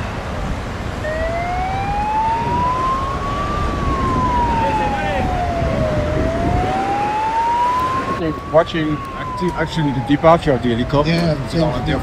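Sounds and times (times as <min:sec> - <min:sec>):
motorway traffic rumble: 0:00.0 - 0:12.0
emergency siren wailing: 0:00.8 - 0:12.0.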